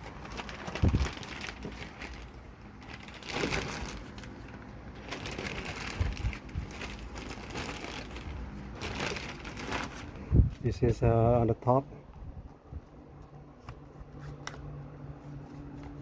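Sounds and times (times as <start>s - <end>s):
rustling handling noises: 0.0s - 11.6s, 12.5s - 16.0s
electric fan humming: 0.0s - 16.0s.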